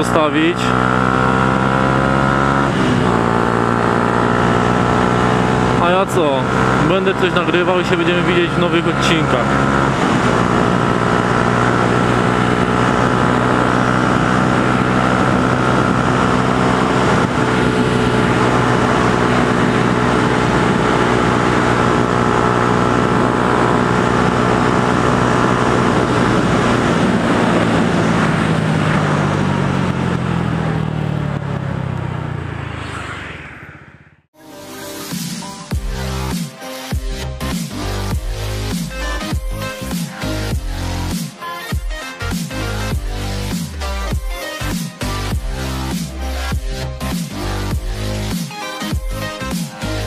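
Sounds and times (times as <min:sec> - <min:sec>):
motorcycle engine cruising: 0:00.0 - 0:34.4, 0:35.0 - 0:50.0.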